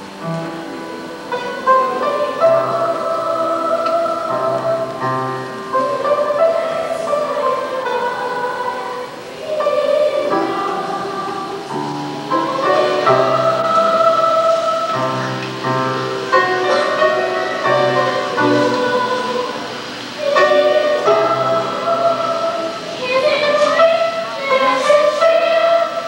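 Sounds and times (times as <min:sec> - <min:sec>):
children's choir singing: 0:00.0 - 0:26.0
instrumental accompaniment: 0:00.0 - 0:26.0.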